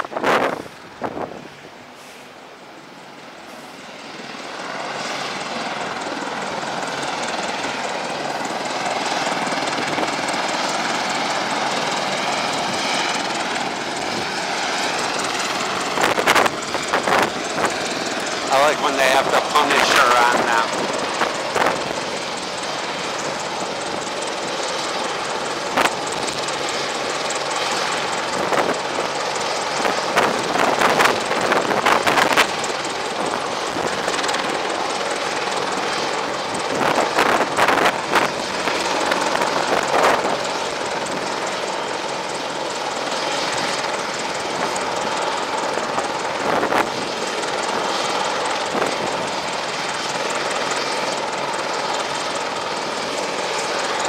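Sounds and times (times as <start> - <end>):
helicopter engines and rotor whine: 0.0 - 54.0.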